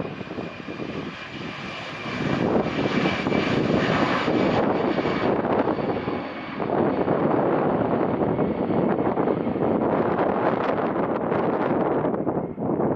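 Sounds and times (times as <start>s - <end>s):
jet engines running: 0.0s - 12.9s.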